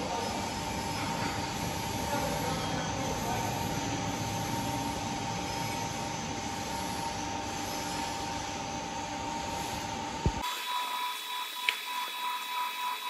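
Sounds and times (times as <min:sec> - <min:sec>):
thin high whines: 0:00.0 - 0:13.0
workshop machinery whining: 0:00.0 - 0:13.0.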